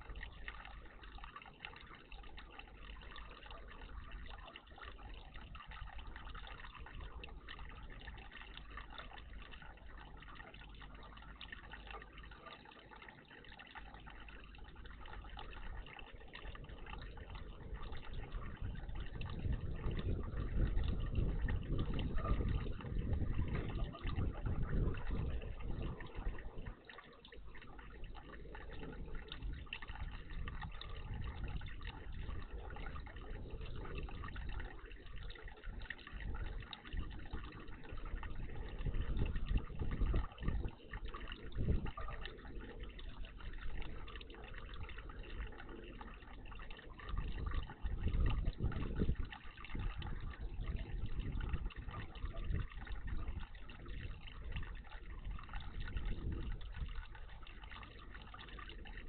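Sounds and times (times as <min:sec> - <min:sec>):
water splashing in birdbath: 0:00.0 - 0:59.0.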